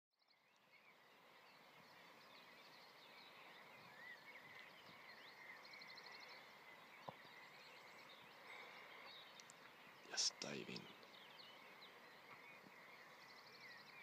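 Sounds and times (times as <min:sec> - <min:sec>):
songbirds chirping: 0:00.2 - 0:14.0.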